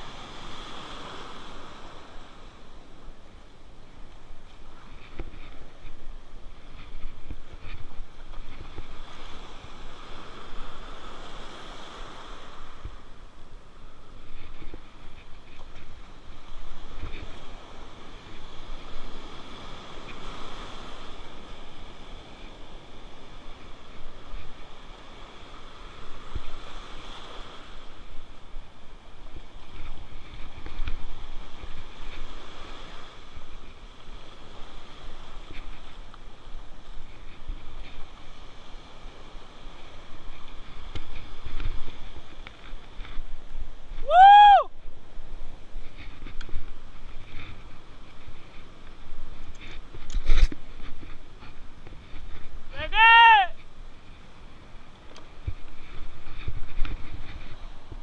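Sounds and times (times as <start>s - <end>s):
surf washing over sand: 0.0s - 58.0s
wind rumbling on microphone: 0.0s - 58.0s.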